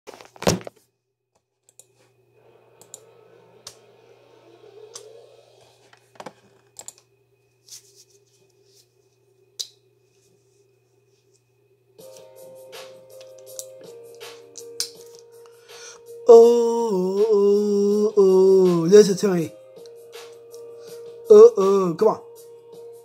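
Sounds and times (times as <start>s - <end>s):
faint steady hum: 1.6s - 23.0s.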